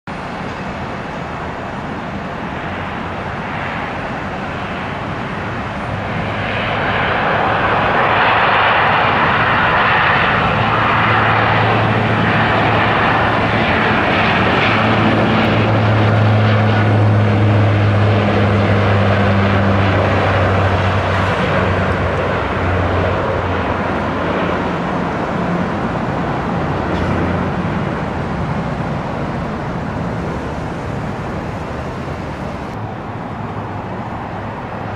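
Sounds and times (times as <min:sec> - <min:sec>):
airliner engines roaring: 0:00.1 - 0:34.9.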